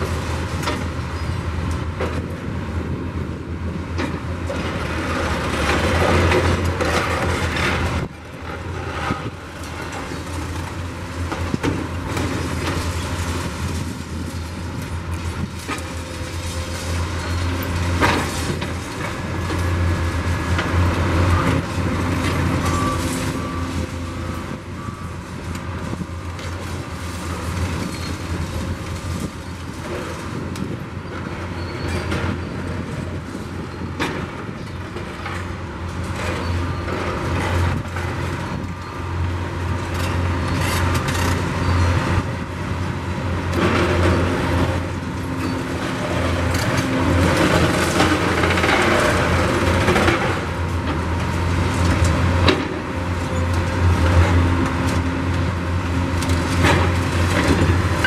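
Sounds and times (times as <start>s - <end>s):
excavator diesel engines running: 0.0s - 58.0s.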